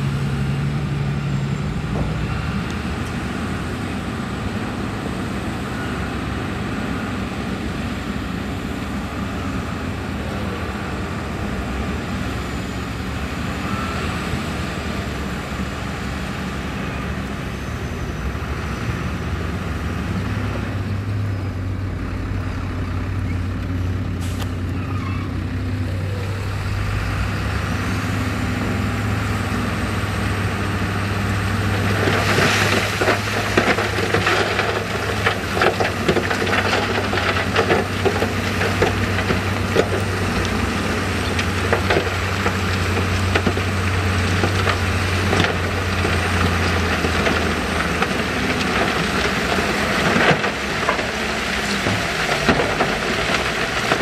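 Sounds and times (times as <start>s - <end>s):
construction machinery diesel engines: 0.0s - 54.0s.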